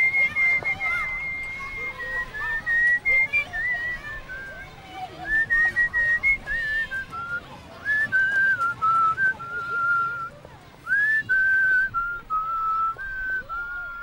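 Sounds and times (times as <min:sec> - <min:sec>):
person whistling a tune: 0:00.0 - 0:14.0.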